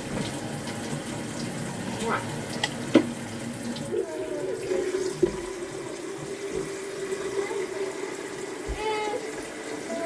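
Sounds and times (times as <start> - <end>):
water running from tap: 0.0 - 10.0.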